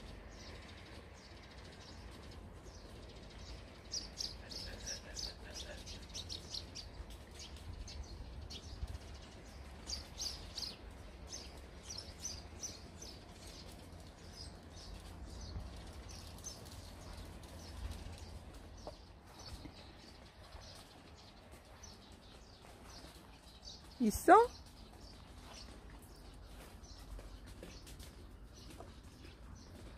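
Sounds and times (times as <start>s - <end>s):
sparrows chirping: 0.0s - 29.9s.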